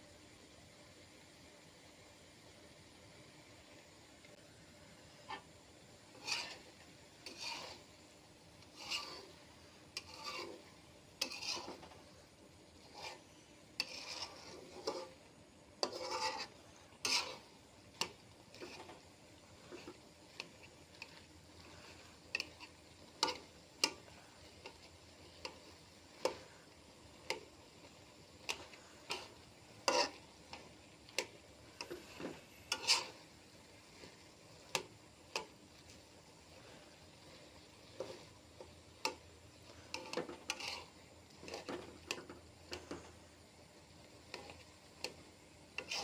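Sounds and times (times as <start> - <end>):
faint steady hiss: 0.0 - 46.0
spatula scraping a cooking pan: 5.2 - 46.0.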